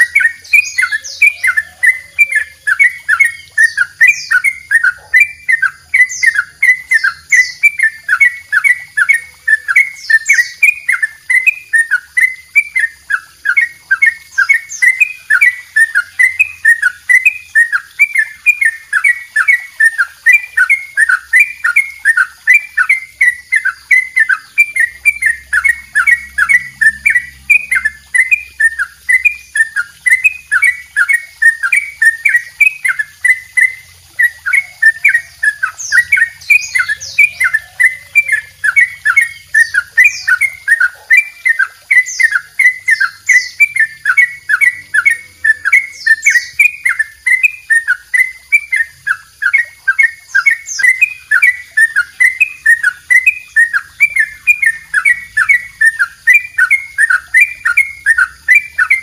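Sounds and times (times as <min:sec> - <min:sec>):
bulbul singing fast repeated notes: 0:00.0 - 0:59.0.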